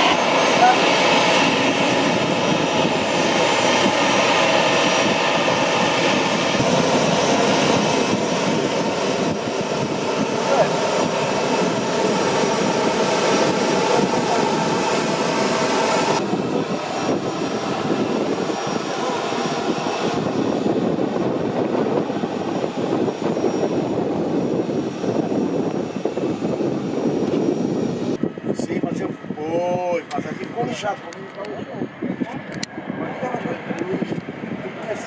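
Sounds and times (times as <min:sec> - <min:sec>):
jet engine noise: 0:00.0 - 0:35.0.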